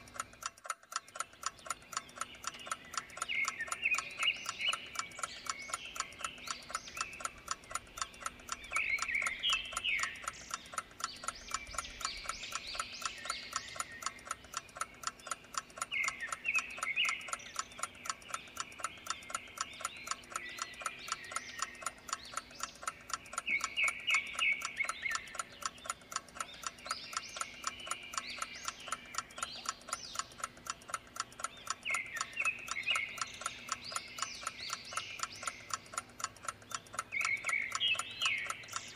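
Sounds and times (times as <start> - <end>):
chirping calls: 0.0 - 38.9
clock ticking: 0.0 - 38.9.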